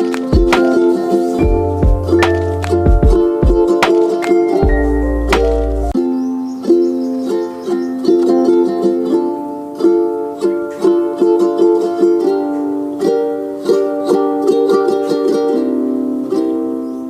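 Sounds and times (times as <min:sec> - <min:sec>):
plucked-string instrumental music: 0:00.0 - 0:17.0.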